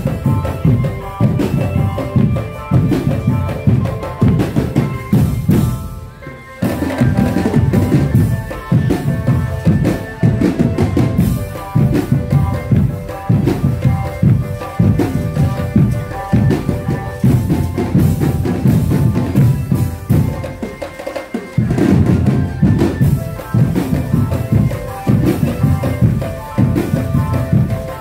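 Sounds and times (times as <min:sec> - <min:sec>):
drumband playing: 0:00.0 - 0:28.0.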